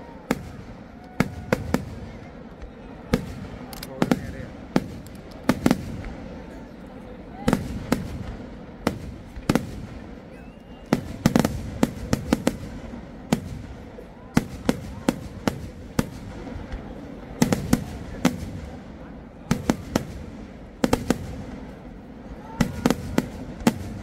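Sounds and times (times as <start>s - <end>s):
fireworks sharp bangs: 0.0s - 6.6s, 7.3s - 24.0s
low steady background noise: 0.0s - 24.0s.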